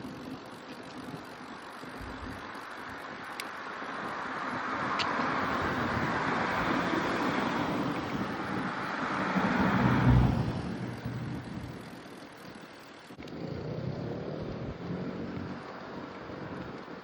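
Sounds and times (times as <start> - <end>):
car tyres on road: 0.0 - 17.0
wind rumble on microphone: 0.0 - 17.0.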